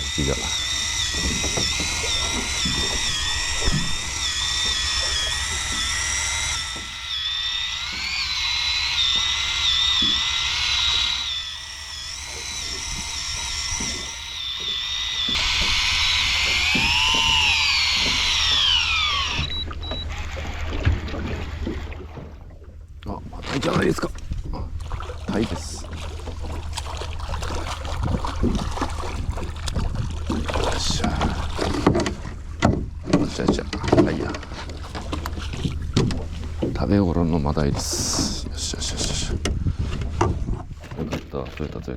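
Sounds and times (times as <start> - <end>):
fishing reel motor whining: 0.0 - 22.4, 24.9 - 32.4, 33.0 - 39.4.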